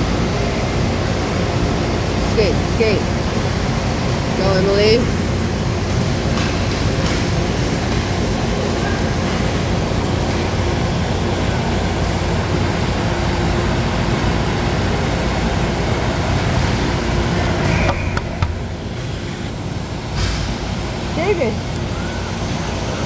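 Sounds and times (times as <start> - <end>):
ventilation fans humming: 0.0 - 23.0.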